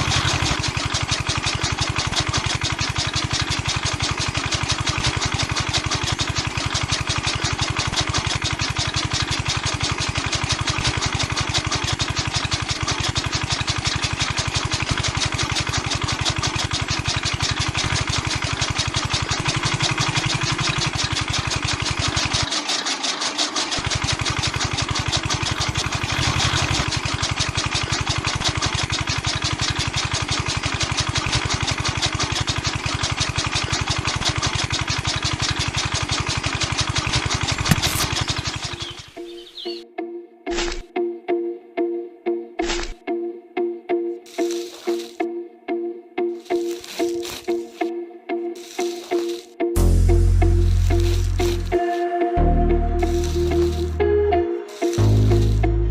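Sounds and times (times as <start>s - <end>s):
small machine running: 0.0s - 39.8s, 44.3s - 45.3s, 46.4s - 47.9s, 48.5s - 55.9s.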